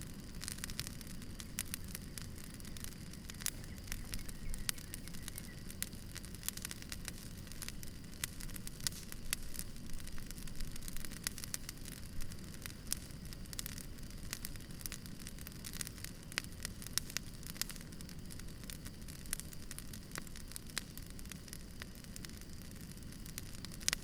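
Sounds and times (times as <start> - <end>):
campfire crackling and popping: 0.0 - 24.0
low rumble of burning fire: 0.0 - 24.0.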